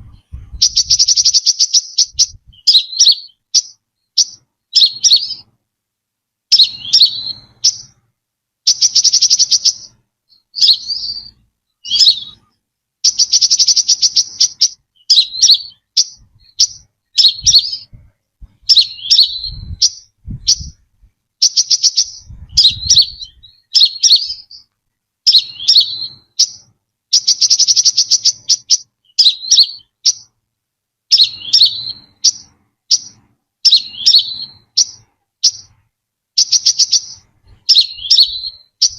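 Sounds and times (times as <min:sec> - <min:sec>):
sunbird calling and trilling: 0:00.0 - 0:05.6, 0:06.5 - 0:08.0, 0:08.6 - 0:30.4, 0:31.1 - 0:38.9.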